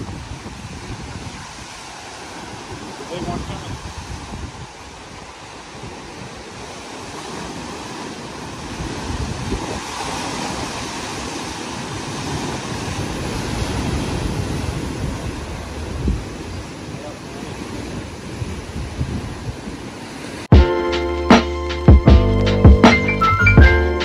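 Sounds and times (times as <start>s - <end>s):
surf breaking on rocky shore: 0.0s - 20.5s
wind buffeting microphone: 0.0s - 20.6s.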